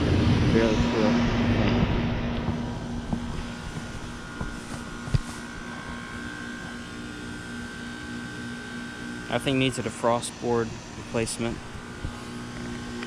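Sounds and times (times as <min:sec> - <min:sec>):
heat pump humming and whining: 0:00.0 - 0:13.0.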